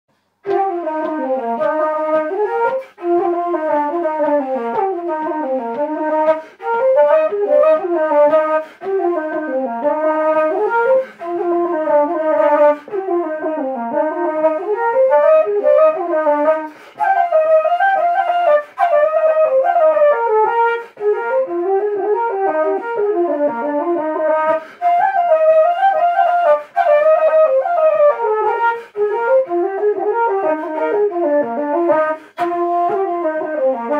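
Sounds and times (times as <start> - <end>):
wooden flutes playing a jig: 0.2 - 33.9.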